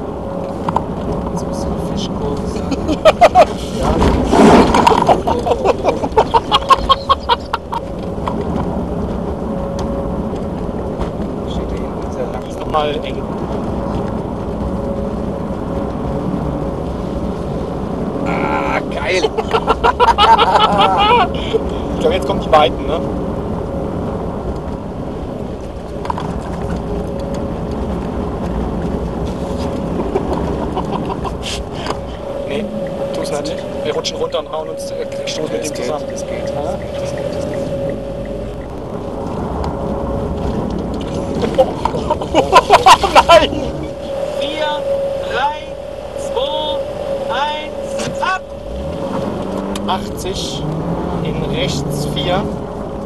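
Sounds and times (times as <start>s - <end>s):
car engine and road noise: 0.0s - 53.0s
noisy rush: 0.0s - 53.0s
tyres rumbling on snow and ice: 0.0s - 53.0s.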